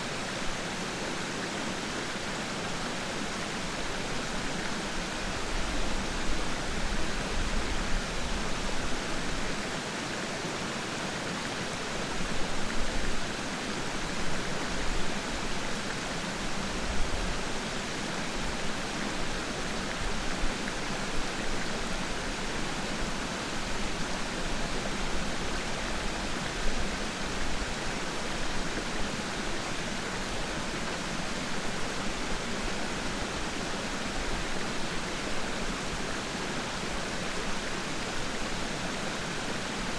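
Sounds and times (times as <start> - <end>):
rushing falling water: 0.0 - 39.9.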